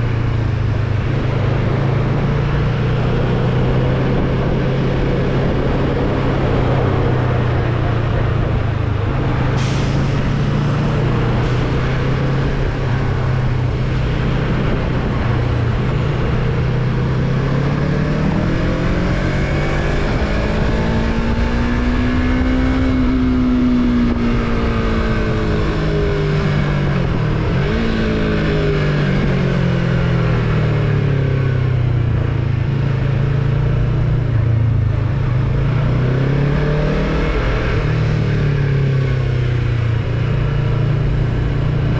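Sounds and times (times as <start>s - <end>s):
motorcycle engine accelerating: 0.0s - 41.9s
wind and road noise: 0.0s - 41.9s.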